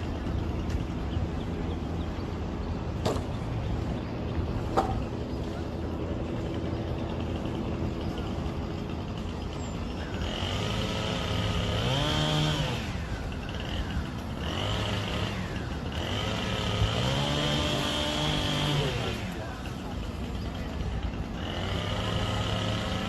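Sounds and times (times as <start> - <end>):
motor vehicle driving: 0.0 - 23.0
road noise: 0.0 - 23.0.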